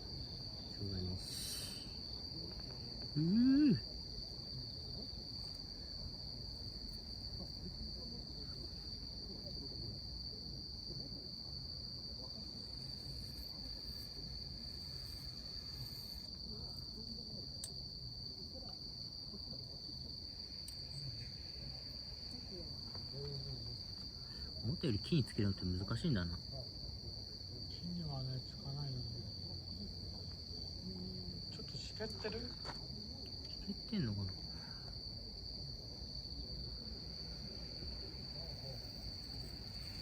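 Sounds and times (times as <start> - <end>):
high-pitched insect song: 0.0 - 40.0.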